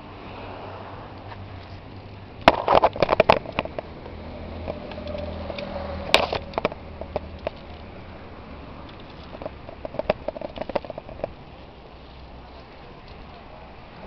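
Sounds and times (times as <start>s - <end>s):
wind and rolling tyres rumble: 0.0s - 14.0s
bicycle and camera rattling: 1.2s - 14.0s.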